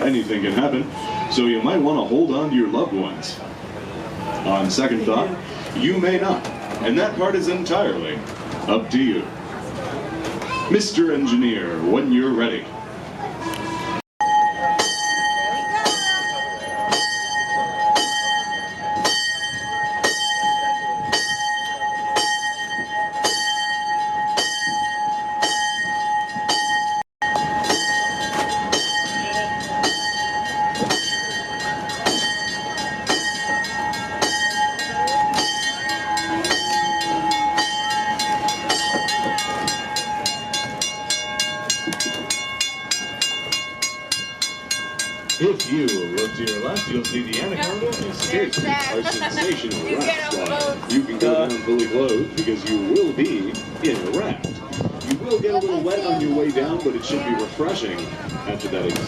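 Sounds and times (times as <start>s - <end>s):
train bell ringing: 0.0s - 3.7s, 13.4s - 59.0s
small train moving: 0.0s - 59.0s.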